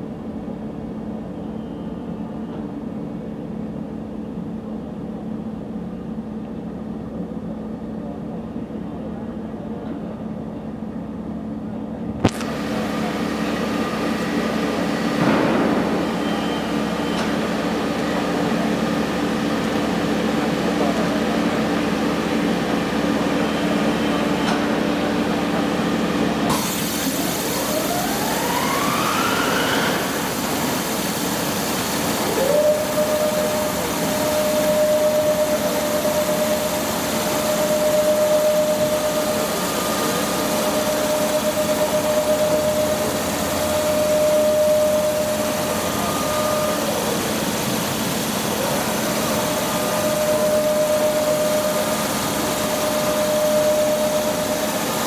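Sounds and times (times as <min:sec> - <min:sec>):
constant machine hum: 0:00.0 - 0:55.0
machine drive whine: 0:09.4 - 0:55.0.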